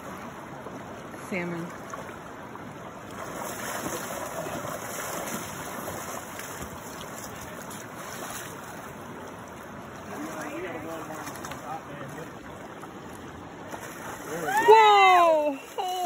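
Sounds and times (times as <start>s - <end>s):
river running over rocks: 0.0s - 16.0s.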